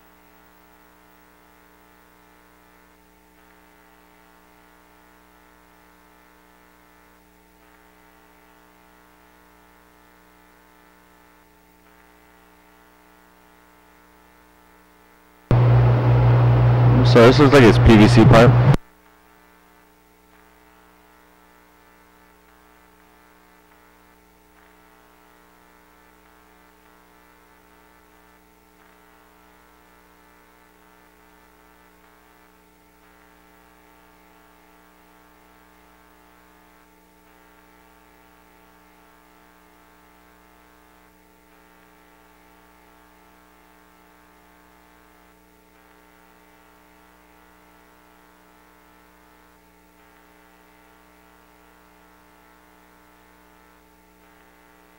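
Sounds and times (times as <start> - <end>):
faint electrical hum: 0.0 - 54.9.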